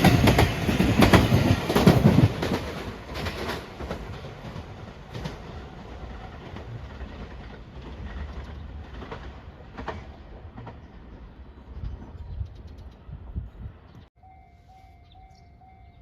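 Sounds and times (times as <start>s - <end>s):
train wheels rumbling on rail: 0.0s - 14.1s.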